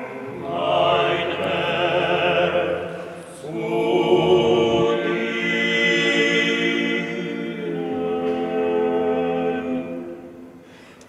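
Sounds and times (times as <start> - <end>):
male vocal quartet singing: 0.0 - 10.6.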